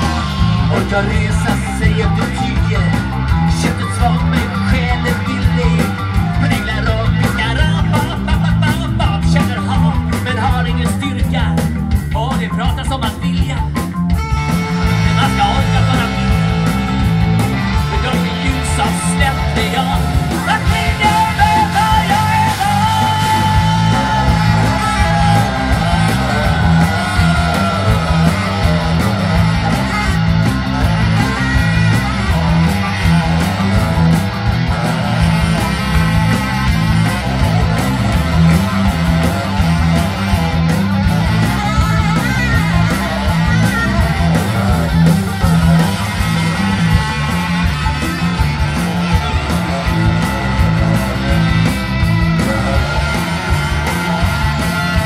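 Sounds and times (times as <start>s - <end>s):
ska-punk band playing: 0.0s - 55.0s.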